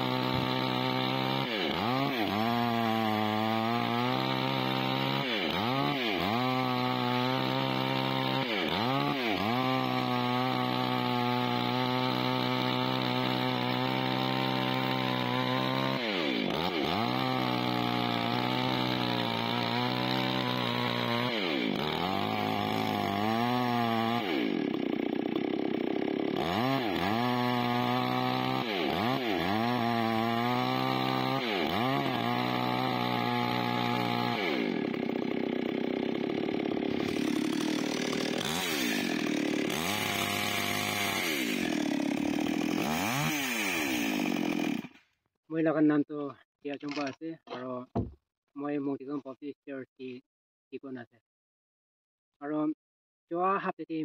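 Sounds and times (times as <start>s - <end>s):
chainsaw cutting wood: 0.0s - 45.3s, 46.8s - 48.2s.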